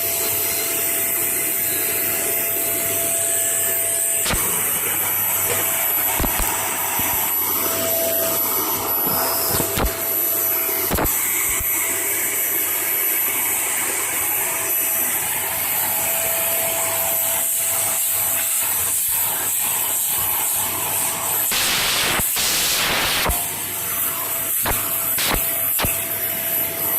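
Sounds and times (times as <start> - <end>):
vacuum cleaner whining: 0.0 - 26.9.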